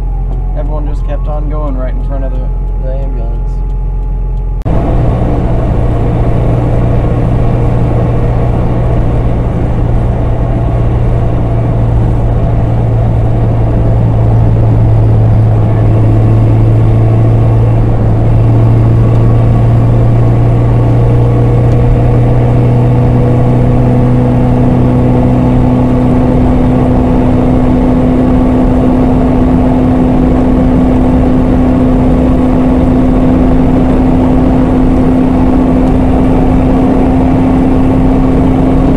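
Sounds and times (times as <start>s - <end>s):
higher steady tone: 0.0s - 38.9s
vehicle engine and road drone: 0.0s - 38.9s.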